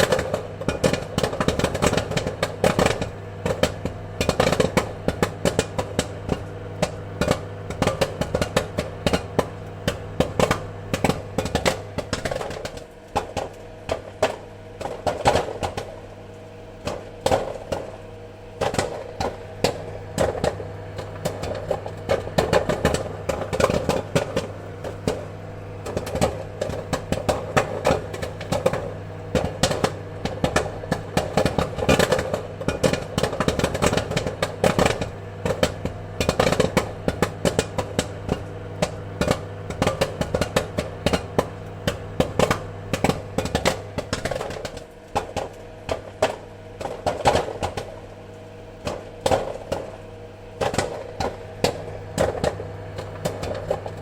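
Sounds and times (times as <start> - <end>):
appliance hum: 0.0 - 54.0
popcorn kernels popping: 0.0 - 54.0.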